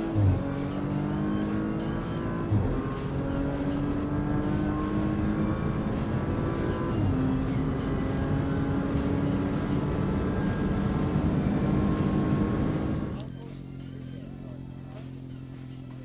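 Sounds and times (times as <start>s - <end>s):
car engine at high revs: 0.0s - 16.0s
road noise: 0.0s - 16.0s.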